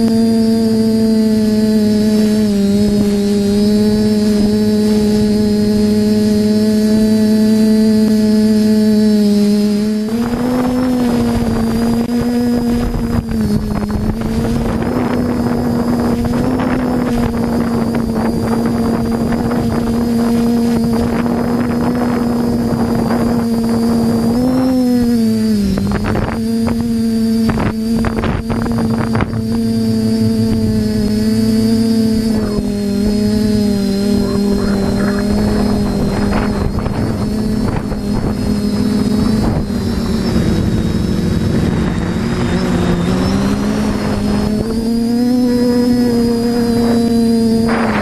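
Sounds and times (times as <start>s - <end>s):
quadcopter propellers humming: 0.0s - 48.0s
wind rush on microphone: 0.0s - 48.0s.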